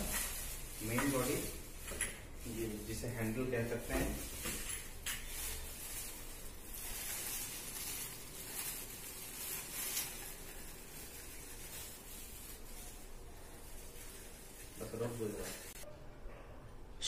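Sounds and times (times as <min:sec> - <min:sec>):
plastic wrap rustling: 0:00.0 - 0:15.8.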